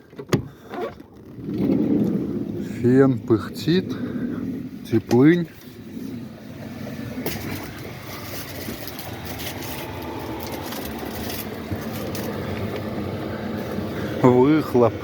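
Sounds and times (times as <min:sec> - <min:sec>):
parking heater blower and burner: 0:01.4 - 0:15.0.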